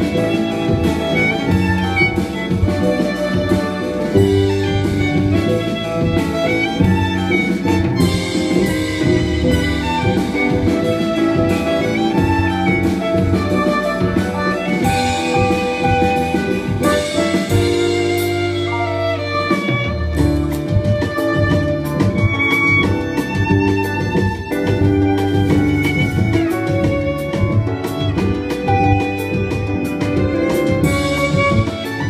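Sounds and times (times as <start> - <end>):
double bass line: 0.0 - 32.0
violin melody: 0.0 - 32.0.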